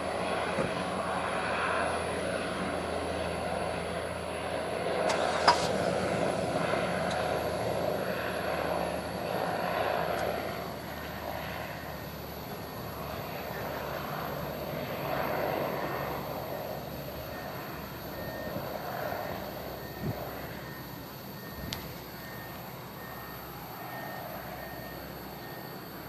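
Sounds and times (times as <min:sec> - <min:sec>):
airship propellers droning: 0:00.0 - 0:26.0.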